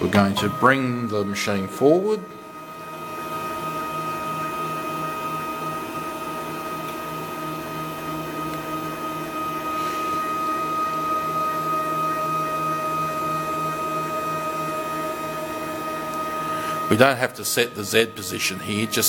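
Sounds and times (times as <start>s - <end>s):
stepper motor whine: 0.0s - 19.0s.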